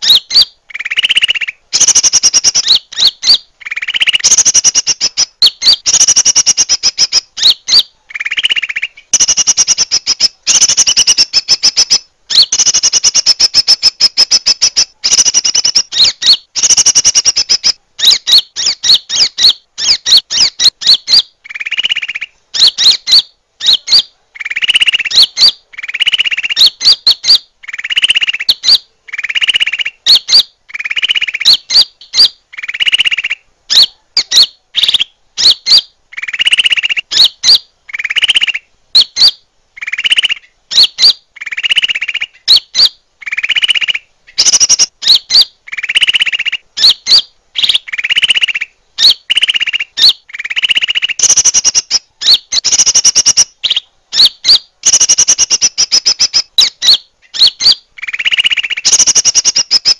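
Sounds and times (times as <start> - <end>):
bird lure call trills and chirps: 0.0 - 59.9
harsh buzzy bird calls: 0.0 - 59.9.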